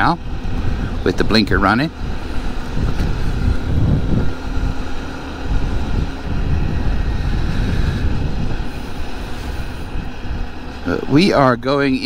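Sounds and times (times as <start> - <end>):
motorbike engine running: 0.0 - 12.0
wind buffeting microphone: 0.0 - 12.0.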